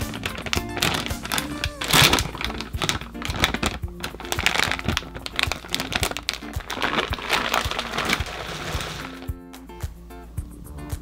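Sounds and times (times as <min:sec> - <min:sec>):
snack packaging crinkling: 0:00.0 - 0:09.3
background music: 0:00.0 - 0:11.0.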